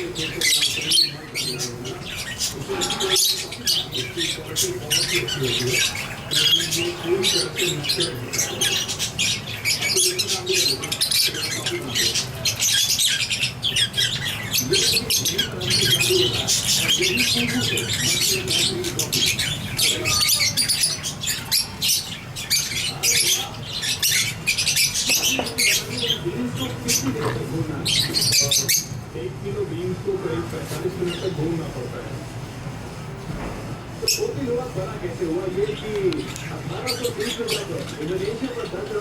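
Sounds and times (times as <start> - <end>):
lovebirds chirping and squawking: 0.0 - 39.0.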